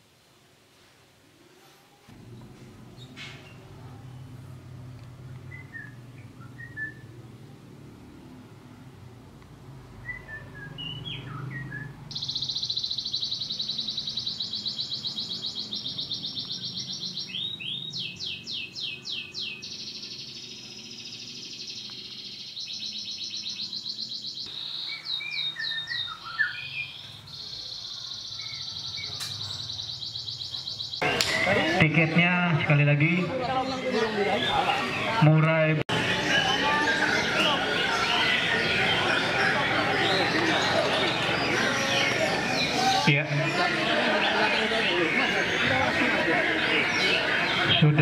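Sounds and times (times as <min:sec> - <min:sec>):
recorded songbird song: 0:02.2 - 0:07.6, 0:09.4 - 0:48.0.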